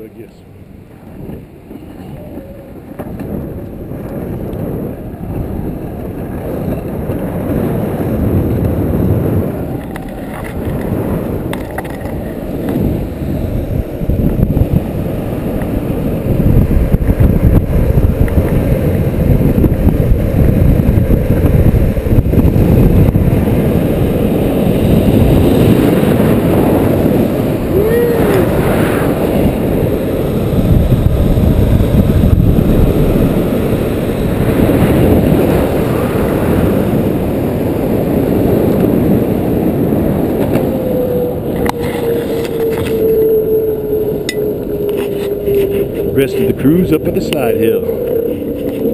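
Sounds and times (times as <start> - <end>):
longboard wheels rolling on asphalt: 0.0 - 48.9
wind rushing over microphone: 0.0 - 48.9.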